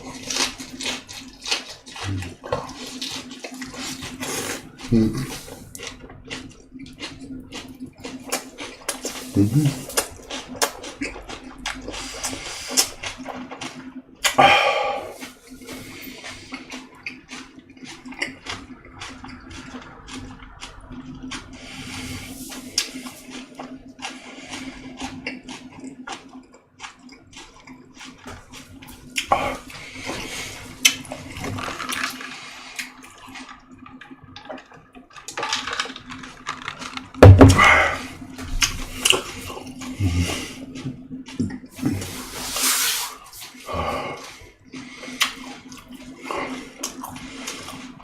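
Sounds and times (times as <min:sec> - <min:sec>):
faint hum: 0:00.0 - 0:48.0
person chewing with wet mouth sounds: 0:00.0 - 0:48.0.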